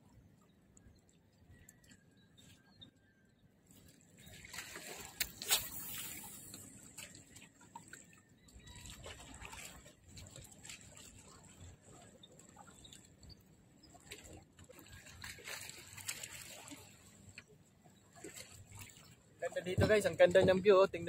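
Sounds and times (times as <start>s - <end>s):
water lapping against rocks: 3.8s - 20.7s.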